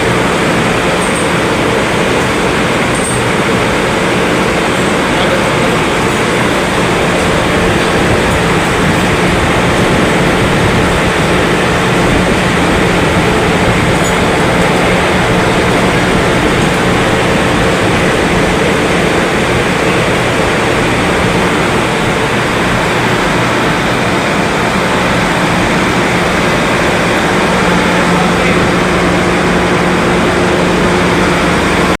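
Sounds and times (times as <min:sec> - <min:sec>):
moving train rumble: 0:00.0 - 0:31.9
constant low hum: 0:00.0 - 0:32.0.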